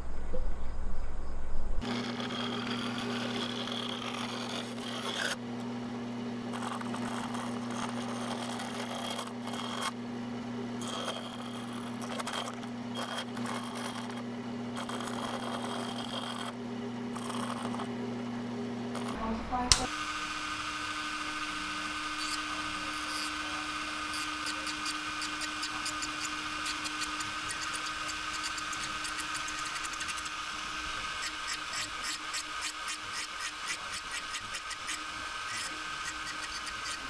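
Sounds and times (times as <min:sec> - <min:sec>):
scroll saw cutting: 0:01.8 - 0:05.8, 0:06.4 - 0:18.2, 0:18.8 - 0:37.0.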